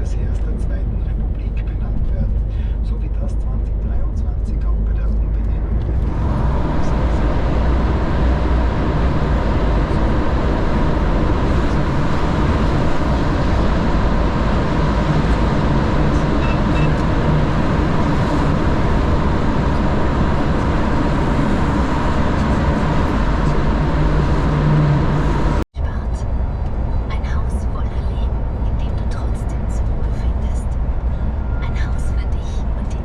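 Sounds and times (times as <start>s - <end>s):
faint steady hum: 0.0s - 33.0s
truck engine and road noise: 0.0s - 33.0s.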